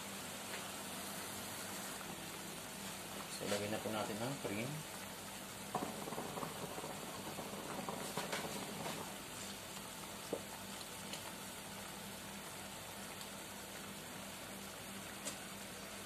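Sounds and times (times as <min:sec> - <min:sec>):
sauce bubbling in a frying pan: 0:00.0 - 0:16.0.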